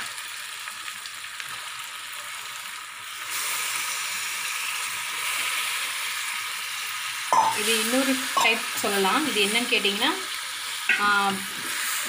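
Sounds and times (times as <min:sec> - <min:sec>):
hot oil sizzling in a pot: 0:00.0 - 0:12.0.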